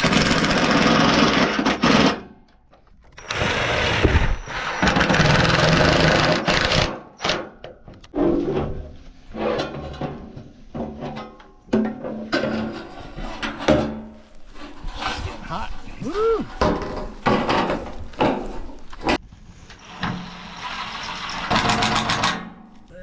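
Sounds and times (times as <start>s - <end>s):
knocks and clatter of parts: 0.0s - 14.2s, 16.6s - 19.2s, 20.8s - 22.8s.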